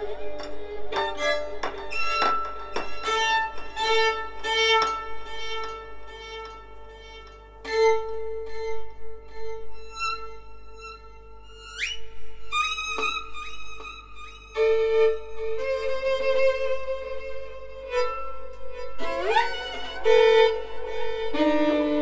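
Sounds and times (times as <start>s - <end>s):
violin playing long notes: 0.0s - 22.0s.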